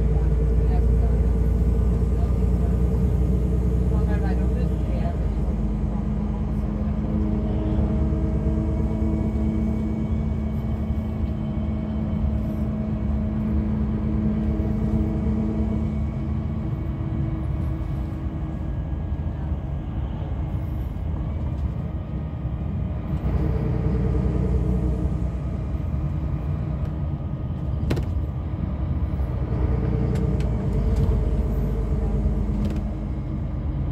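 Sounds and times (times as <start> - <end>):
bus engine drone: 0.0 - 33.9
road and tyre rumble: 0.0 - 33.9.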